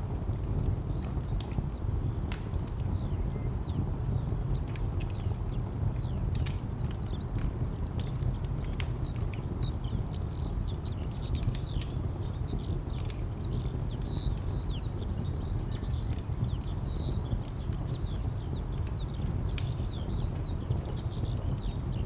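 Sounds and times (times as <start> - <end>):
small birds chirping: 0.0 - 22.0
wood fire crackling and popping: 0.0 - 22.0.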